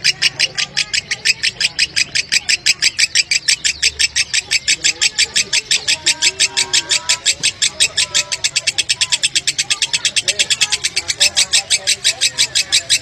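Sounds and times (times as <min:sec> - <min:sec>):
lovebird chattering: 0:00.0 - 0:13.0.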